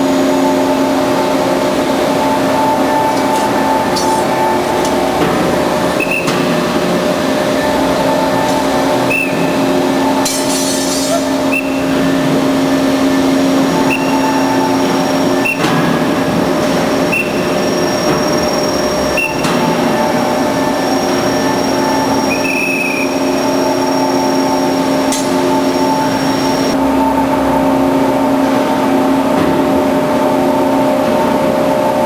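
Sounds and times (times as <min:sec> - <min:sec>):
band saw humming: 0:00.0 - 0:30.9.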